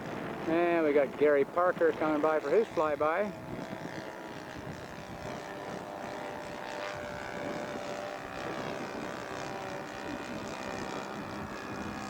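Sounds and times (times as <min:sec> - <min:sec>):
model airplane engine droning: 0:00.0 - 0:12.0.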